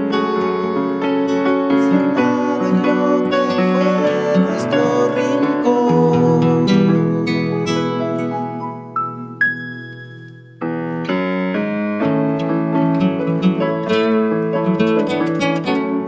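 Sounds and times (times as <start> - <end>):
acoustic guitar plucked notes: 0.0 - 16.0
keyboard piano notes: 0.0 - 16.0.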